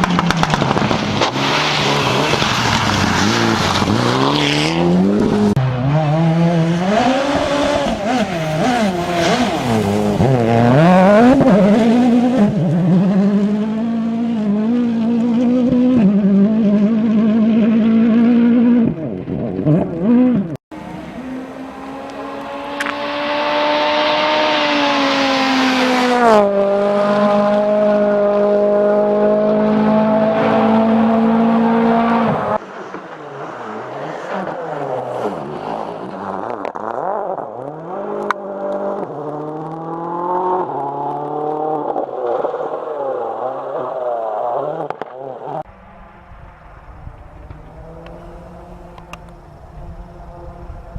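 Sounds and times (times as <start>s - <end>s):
distant rally car revving: 0.0s - 50.9s
rally car engine passing: 0.0s - 50.9s.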